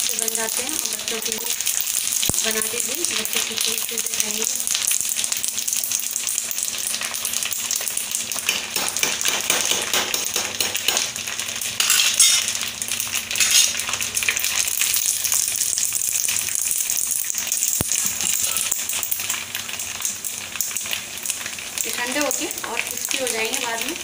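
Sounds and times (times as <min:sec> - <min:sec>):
crackling sizzle of deep-frying: 0:00.0 - 0:24.0.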